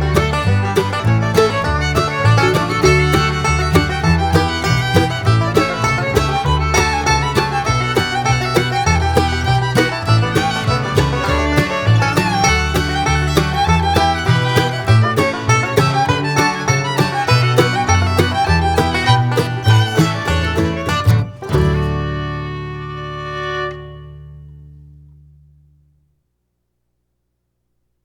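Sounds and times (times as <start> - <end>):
fiddle: 0.0 - 24.7
bluegrass music: 0.0 - 25.0
guitar: 0.0 - 26.1.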